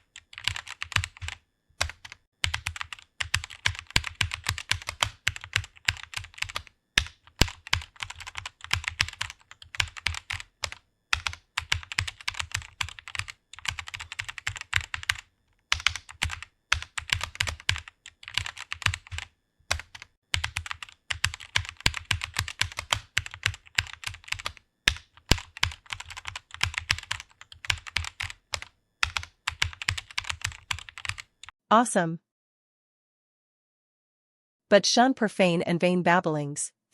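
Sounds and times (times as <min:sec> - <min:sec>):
fast keyboard typing: 0:00.0 - 0:31.5.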